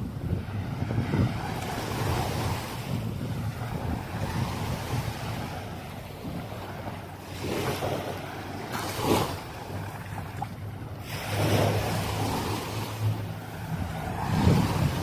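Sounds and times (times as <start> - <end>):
low engine hum: 0.0 - 15.0
waves washing onto beach: 0.0 - 15.0
wind on microphone: 0.0 - 15.0.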